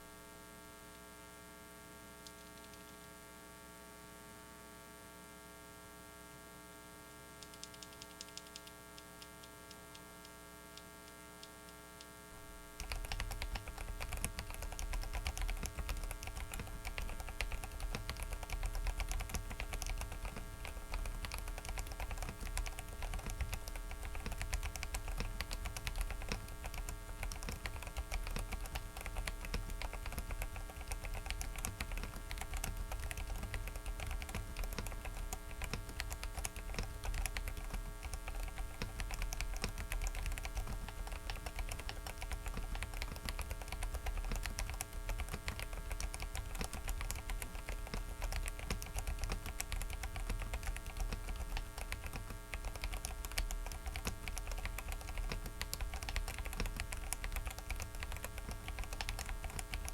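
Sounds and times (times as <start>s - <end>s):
electrical buzz and hum: 0.0s - 59.9s
mechanical keyboard typing: 2.2s - 3.0s, 7.4s - 9.8s, 12.8s - 59.9s.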